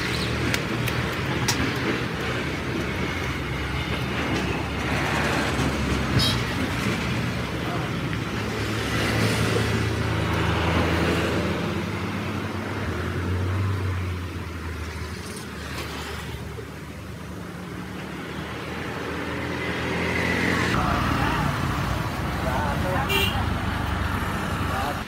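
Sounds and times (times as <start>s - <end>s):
roadside traffic: 0.0s - 25.0s.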